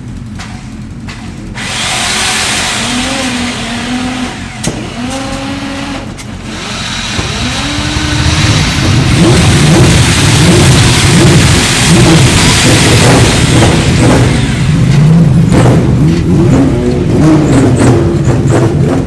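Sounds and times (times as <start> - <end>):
motorcycle engine revving: 0.9 - 19.0.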